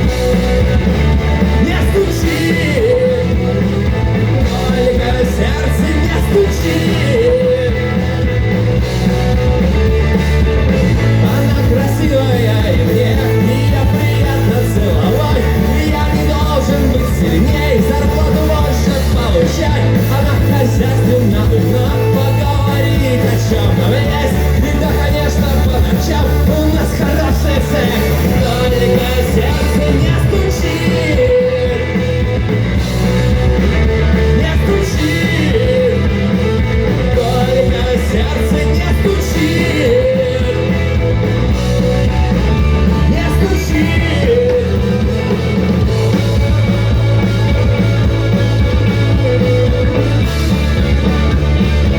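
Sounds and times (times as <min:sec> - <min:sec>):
rock song with vocals: 0:00.0 - 0:51.9.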